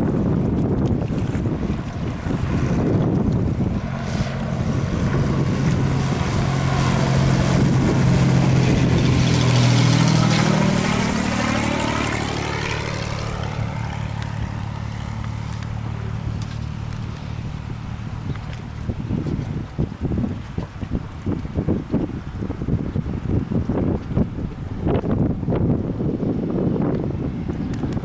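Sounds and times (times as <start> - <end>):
propeller plane passing by: 0.0 - 28.0.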